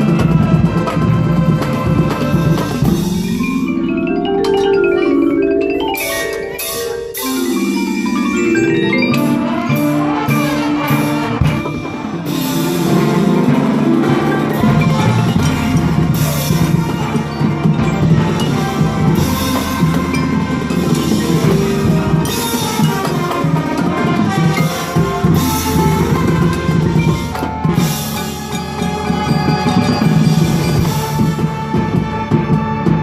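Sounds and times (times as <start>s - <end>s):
marimbas playing quick scales: 0.0s - 31.8s
marching band playing: 0.0s - 33.0s.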